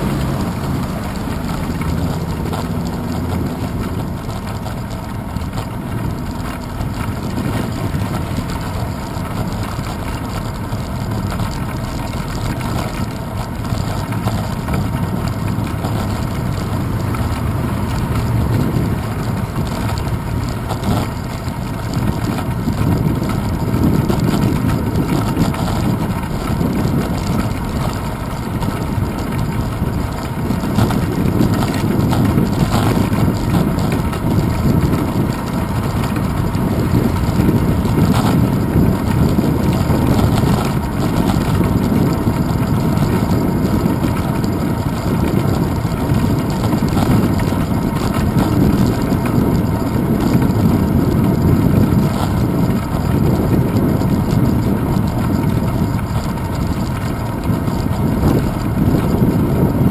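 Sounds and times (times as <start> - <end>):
bicycle road vibration: 0.0 - 59.9
wind rumble: 0.0 - 59.9.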